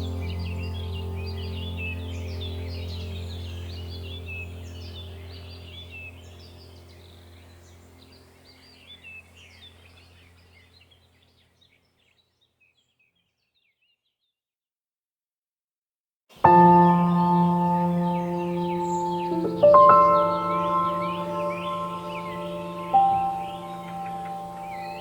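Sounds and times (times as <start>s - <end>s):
small birds chirping and twittering: 0.0s - 14.4s, 16.4s - 25.0s.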